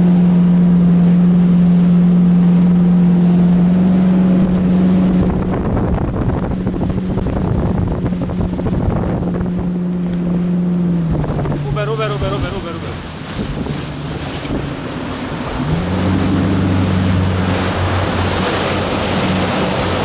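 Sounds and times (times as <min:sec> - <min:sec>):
motorboat engine running: 0:00.0 - 0:20.0
rushing water: 0:00.0 - 0:20.0
wind on microphone: 0:01.3 - 0:20.0.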